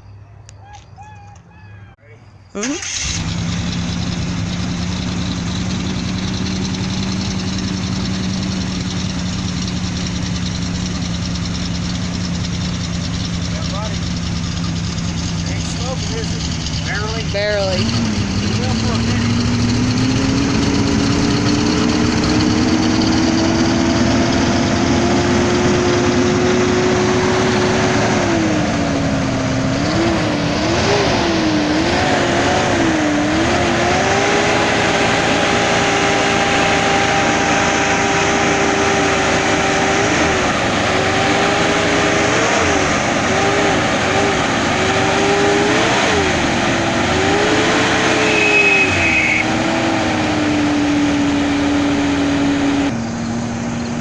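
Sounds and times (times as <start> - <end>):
motorhome engine revving: 1.8 - 54.0.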